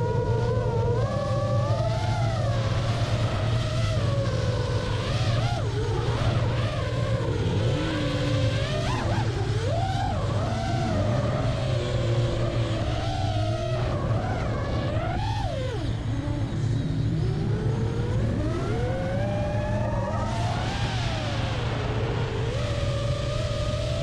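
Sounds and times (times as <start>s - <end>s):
drone propellers whining: 0.0s - 24.0s
steady low hum: 0.0s - 24.0s.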